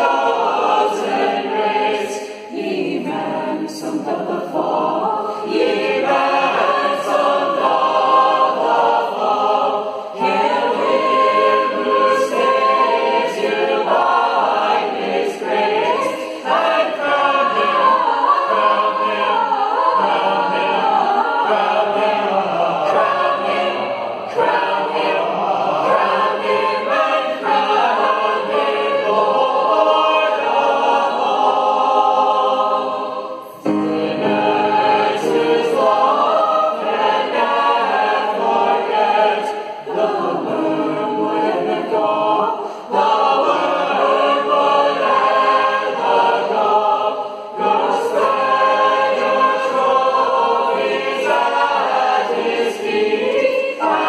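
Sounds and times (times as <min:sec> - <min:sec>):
many voices singing a hymn: 0:00.0 - 0:54.0.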